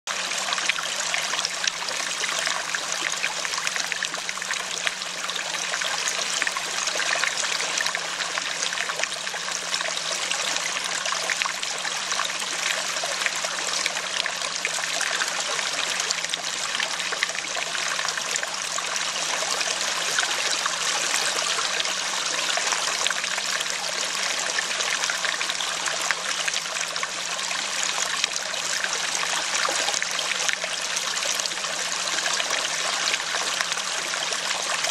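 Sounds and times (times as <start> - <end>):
stream trickling: 0.1 - 34.9.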